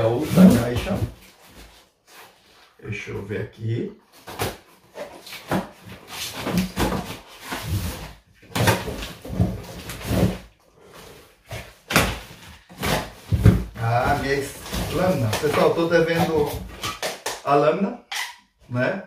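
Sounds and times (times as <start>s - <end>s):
cardboard scraping and rustling: 0.0s - 2.7s, 4.1s - 16.9s.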